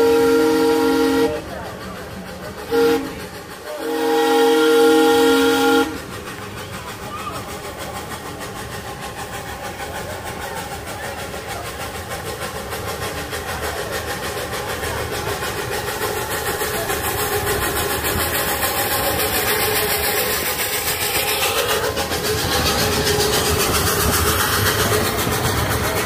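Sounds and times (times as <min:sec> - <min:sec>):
miniature locomotive passing: 0:00.0 - 0:26.0.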